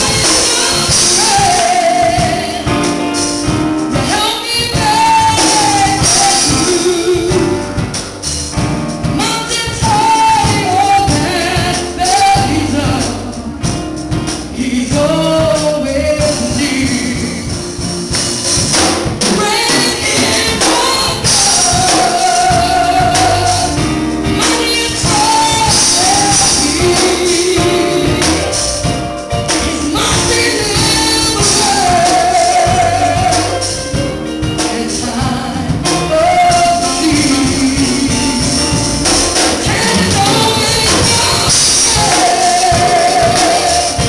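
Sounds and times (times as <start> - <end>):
woman singing gospel song: 0.0 - 8.1, 9.0 - 17.9, 19.1 - 44.0
instrumental accompaniment with beat: 0.0 - 44.0.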